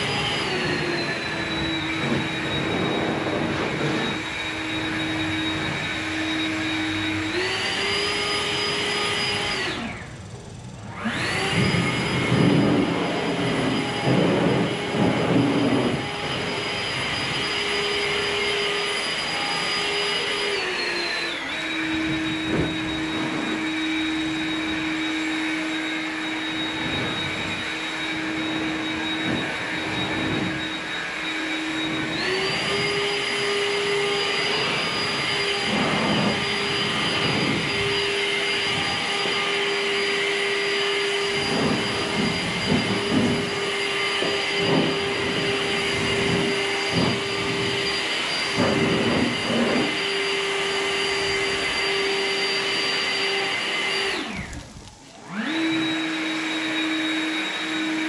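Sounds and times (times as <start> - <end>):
blower whining: 0.0 - 58.0.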